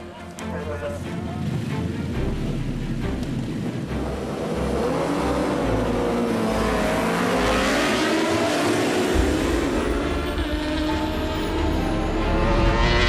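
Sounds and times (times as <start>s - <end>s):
racing motorcycles passing at speed: 0.9s - 13.0s.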